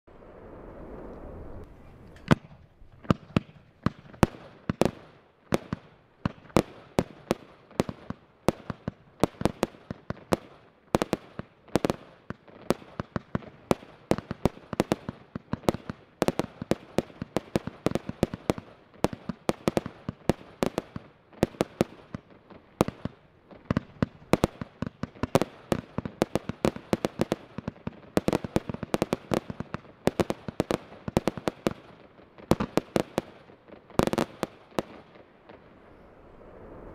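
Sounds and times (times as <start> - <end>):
fireworks pops and bangs: 0.9 - 36.0.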